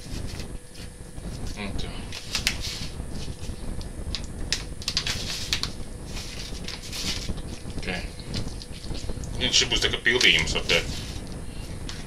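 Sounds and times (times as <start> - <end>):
foil packet crackling: 0.2 - 12.0.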